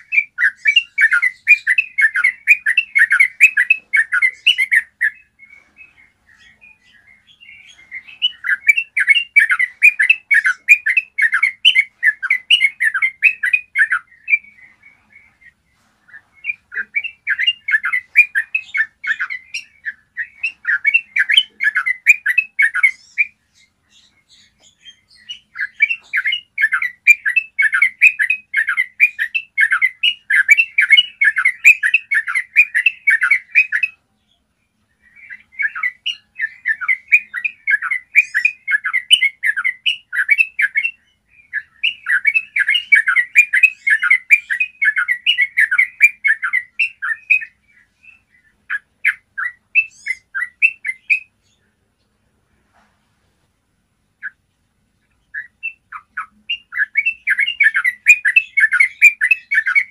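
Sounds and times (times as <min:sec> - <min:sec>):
bird singing rapid clear notes: 0:00.0 - 0:52.2, 0:54.1 - 0:59.9.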